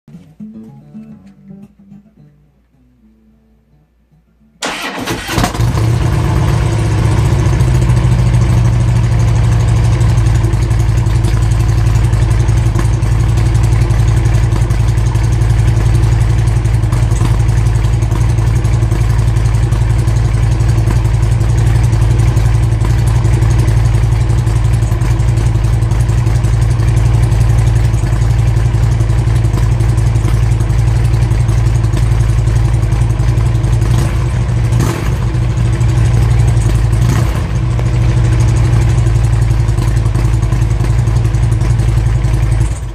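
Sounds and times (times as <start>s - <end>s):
motorcycle engine starting and idling: 4.6s - 42.9s.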